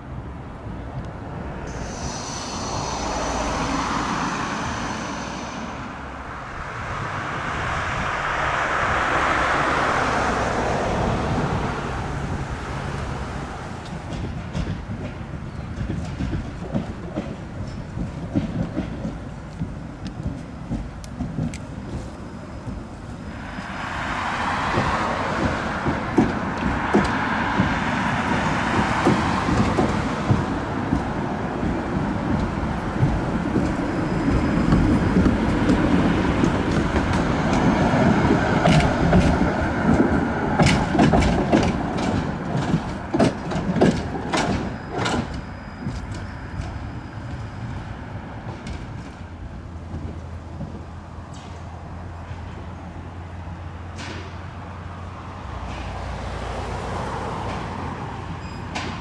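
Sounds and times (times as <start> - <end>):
tram rush and wheel rumble: 0.0 - 59.0
tram wheels clacking on rails: 0.0 - 59.0.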